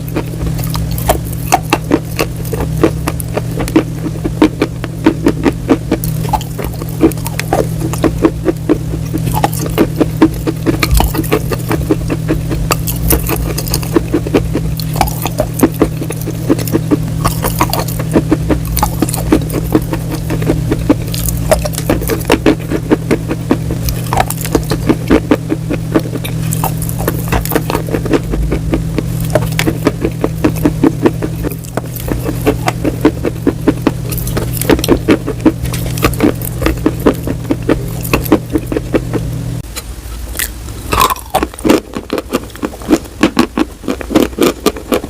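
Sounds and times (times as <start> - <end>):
crunchy food being chewed: 0.0 - 45.0
steady low hum: 0.0 - 45.0.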